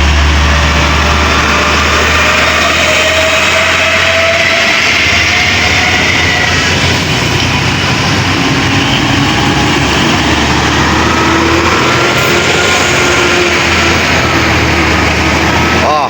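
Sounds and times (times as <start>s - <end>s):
heavy truck engine droning: 0.0s - 16.0s.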